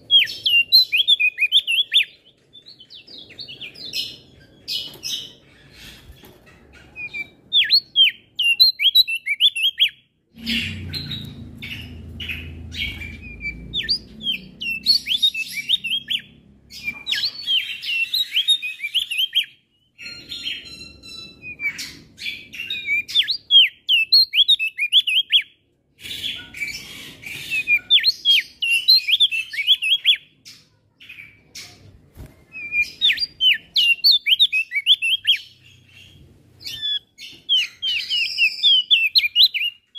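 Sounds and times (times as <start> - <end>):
bird singing high chirps: 0.0 - 31.8, 32.4 - 39.9.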